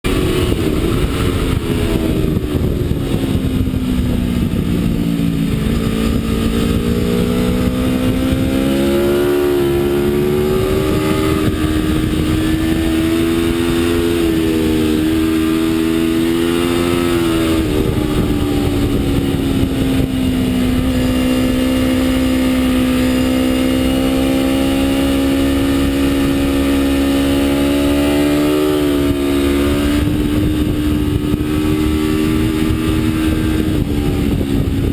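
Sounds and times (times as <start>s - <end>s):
motorcycle engine running hard: 0.0s - 34.9s.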